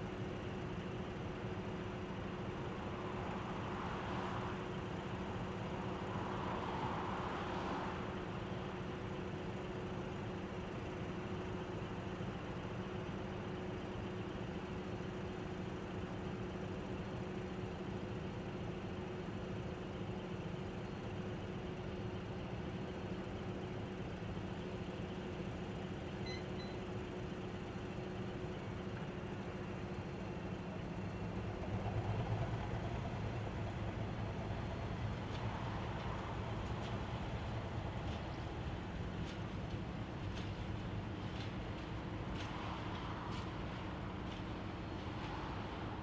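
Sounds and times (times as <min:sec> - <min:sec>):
diesel locomotive engines: 0:00.0 - 0:46.0.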